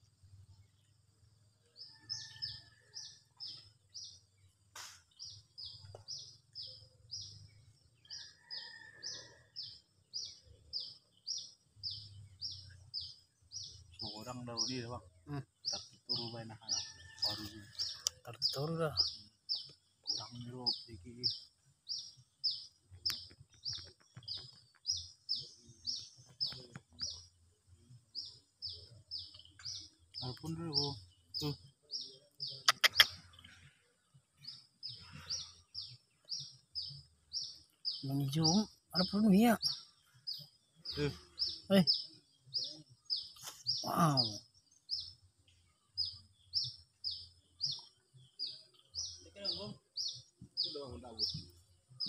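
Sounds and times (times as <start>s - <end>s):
bird chirping: 0.0s - 52.0s.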